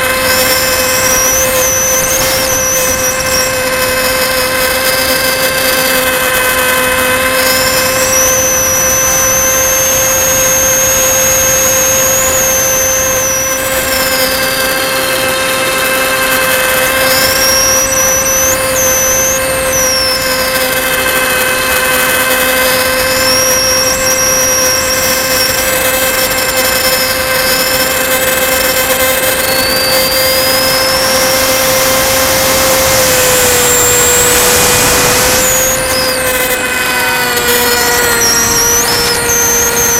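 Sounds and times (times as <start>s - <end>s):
electric motor and propeller hum: 0.0s - 39.9s
high motor whine: 0.0s - 39.9s.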